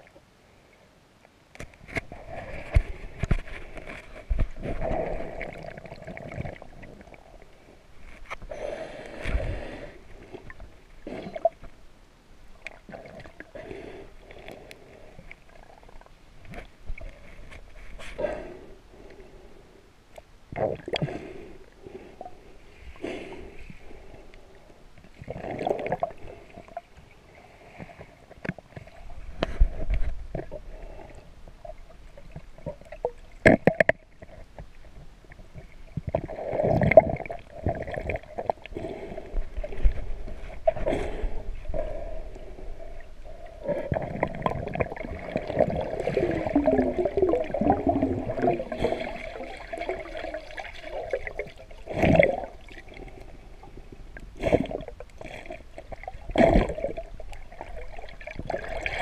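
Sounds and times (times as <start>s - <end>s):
underwater gurgling and sloshing: 1.6s - 59.0s
underwater bubbling: 1.9s - 11.9s, 12.5s - 19.4s, 20.4s - 59.0s.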